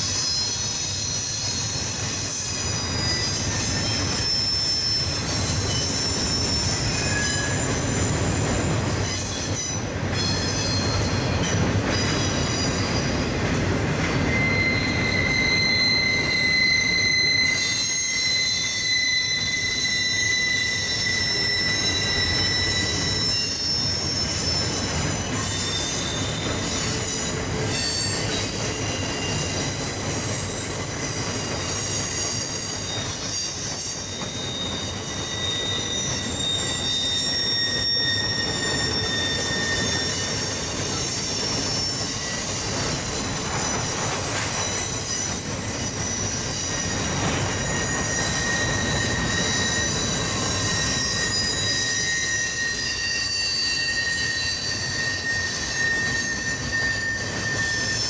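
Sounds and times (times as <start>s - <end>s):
high wheel squeals: 0.0s - 58.0s
train wheels rumbling on rail: 0.0s - 58.0s.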